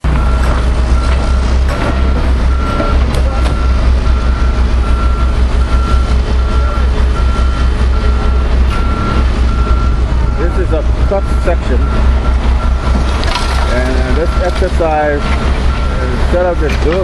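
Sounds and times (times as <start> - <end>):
diesel engine rumble: 0.0 - 17.0
backup alarm beeping: 2.5 - 17.0.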